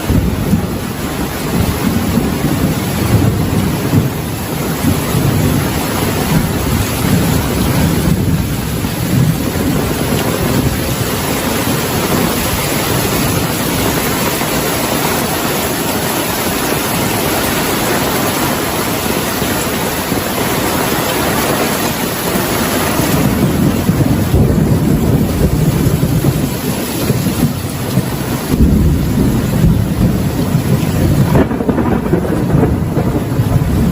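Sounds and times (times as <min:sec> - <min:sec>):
heavy rain falling: 0:00.0 - 0:33.9
thunder rumbling: 0:00.0 - 0:33.9.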